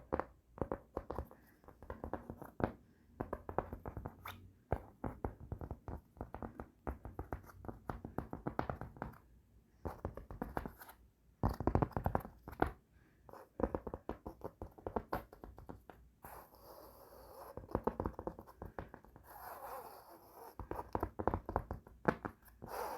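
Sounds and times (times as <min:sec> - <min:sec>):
fingertips tapping on fabric: 0:00.0 - 0:16.2, 0:17.4 - 0:19.4, 0:20.5 - 0:22.9.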